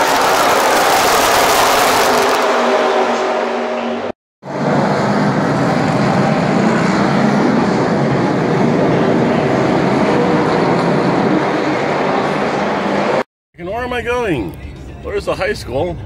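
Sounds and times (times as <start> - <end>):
race car engines: 0.0 - 13.2.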